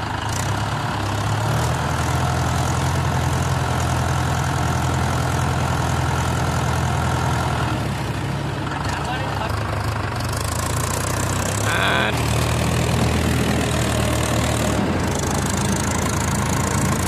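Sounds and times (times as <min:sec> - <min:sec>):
tractor diesel engines running: 0:00.0 - 0:17.0.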